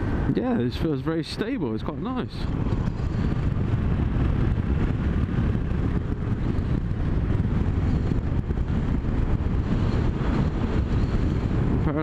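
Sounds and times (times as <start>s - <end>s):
wind rumble: 0.0s - 12.0s
motorcycle engine running: 1.9s - 12.0s.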